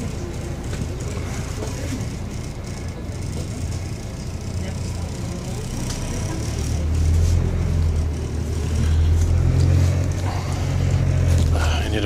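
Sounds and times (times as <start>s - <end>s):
moving train car rumble: 0.0s - 12.0s
train diesel engine drone: 0.0s - 12.0s.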